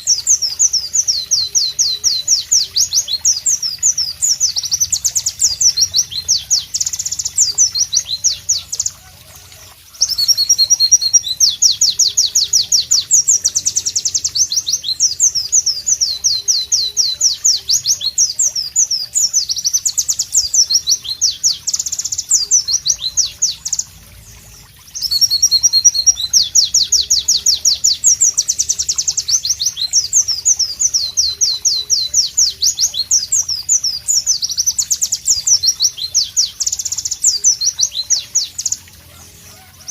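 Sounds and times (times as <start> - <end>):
white-eye bird singing: 0.0 - 39.9.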